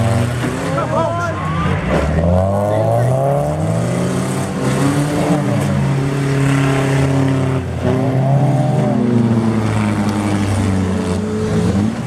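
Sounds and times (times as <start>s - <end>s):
several car engines revving: 0.0s - 12.0s.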